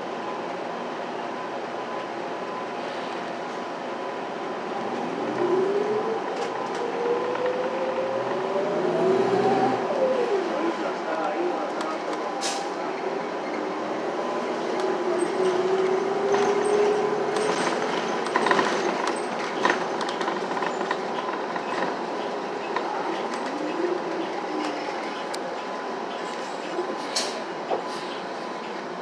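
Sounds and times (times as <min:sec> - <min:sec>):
bus road noise: 0:00.0 - 0:29.0.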